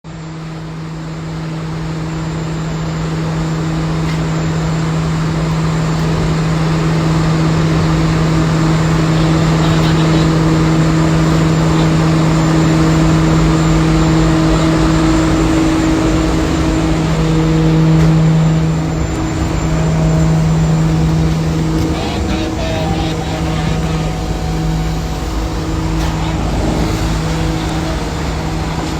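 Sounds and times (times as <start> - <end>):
ramp machinery humming: 0.1 - 28.9.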